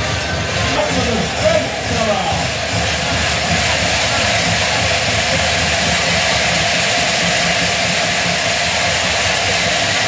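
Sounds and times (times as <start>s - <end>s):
stadium crowd roar: 0.0s - 10.0s.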